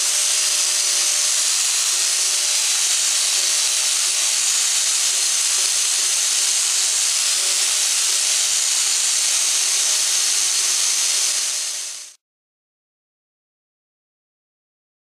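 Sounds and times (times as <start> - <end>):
angle grinder sanding metal: 0.0 - 12.2.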